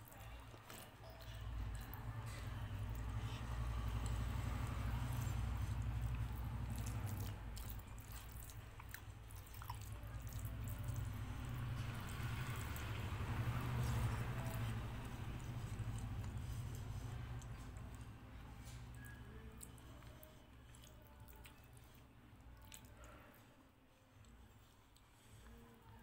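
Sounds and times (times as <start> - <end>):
wet chewing: 0.0 - 23.4
fingers squelching food: 0.1 - 23.2.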